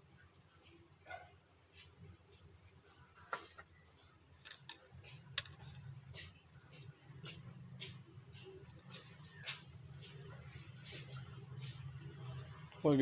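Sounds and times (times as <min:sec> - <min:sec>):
faint clicks and scrapes on plastic: 0:00.0 - 0:12.8.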